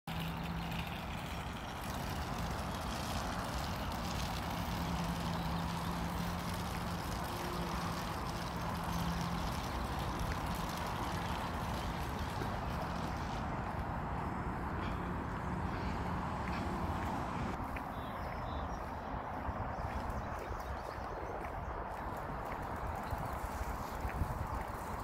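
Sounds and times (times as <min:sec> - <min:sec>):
road traffic: 0:00.0 - 0:25.0
low engine hum: 0:00.1 - 0:25.0.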